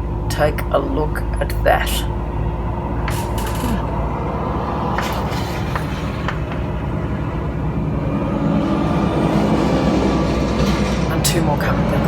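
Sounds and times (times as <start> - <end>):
heavy trucks passing: 0.0 - 12.0.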